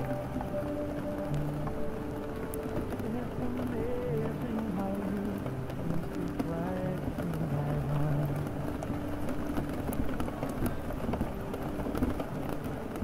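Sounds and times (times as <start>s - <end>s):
faint clicks: 0.0s - 13.0s
muffled pop music: 0.0s - 13.0s
passing traffic: 0.0s - 13.0s
steady rain: 0.0s - 13.0s.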